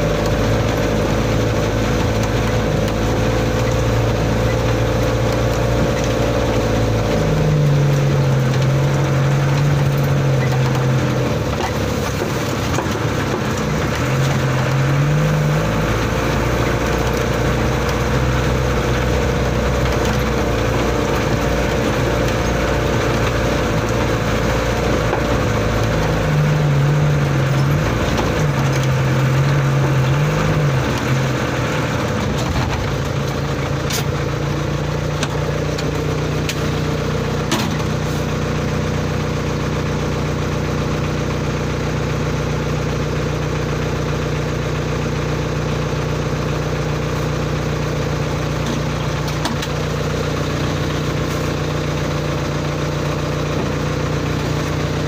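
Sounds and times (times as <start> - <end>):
road and cab noise: 0.0 - 55.0
truck engine from inside cab: 0.0 - 55.0.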